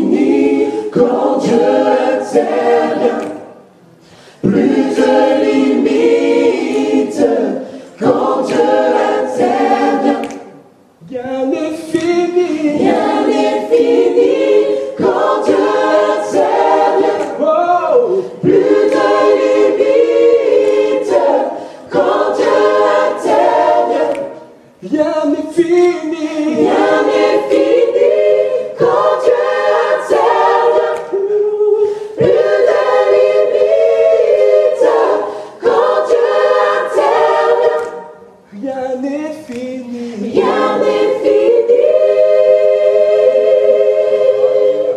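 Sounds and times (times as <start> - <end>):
choir singing a cappella: 0.0 - 44.9.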